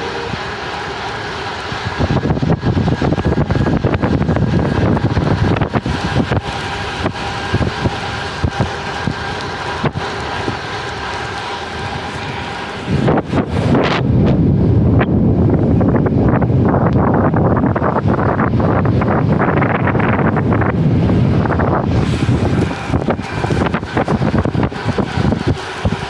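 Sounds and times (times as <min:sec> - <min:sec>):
tyres rolling on rough trail: 0:00.0 - 0:26.0
wind on microphone: 0:01.7 - 0:26.0.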